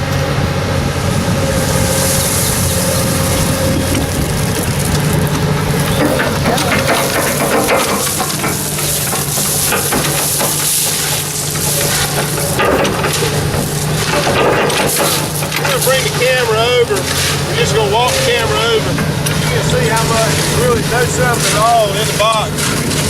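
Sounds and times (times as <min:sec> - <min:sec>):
continuous hiss: 0:00.0 - 0:23.0
engine running: 0:00.0 - 0:23.0
shovel digging in gravel: 0:01.6 - 0:18.6, 0:19.3 - 0:23.0.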